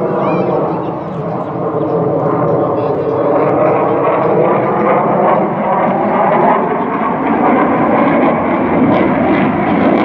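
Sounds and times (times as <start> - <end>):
jet aircraft flying overhead: 0.0 - 10.0.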